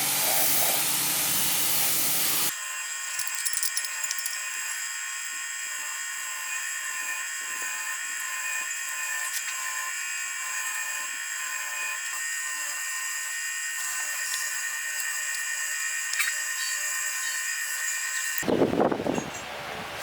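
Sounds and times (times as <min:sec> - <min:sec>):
electric power tool whining: 0:02.0 - 0:18.6.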